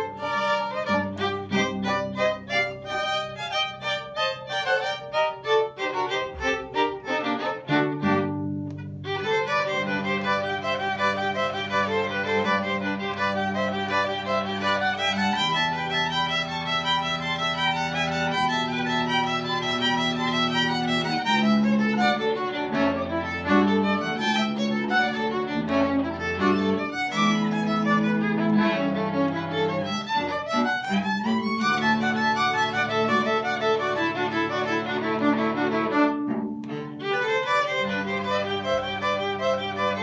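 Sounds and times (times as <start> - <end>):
low cello notes: 0.0 - 40.0
violin: 0.0 - 40.0.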